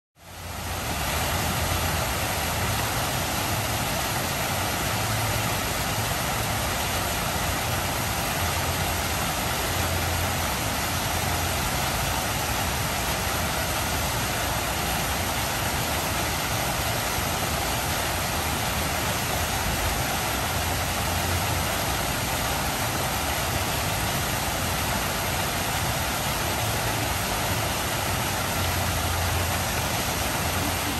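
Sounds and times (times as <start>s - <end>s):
fountain water splashing: 0.2s - 30.9s.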